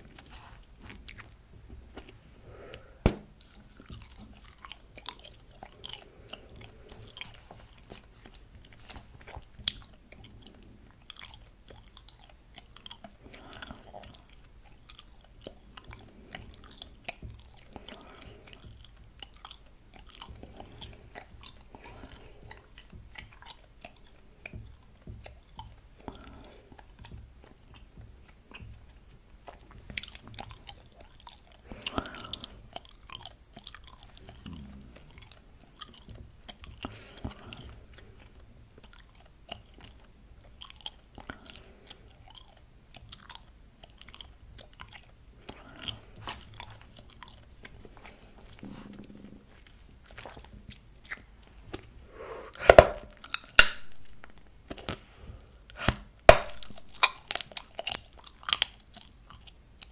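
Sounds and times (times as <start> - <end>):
chewing bubble gum: 0.0 - 59.9.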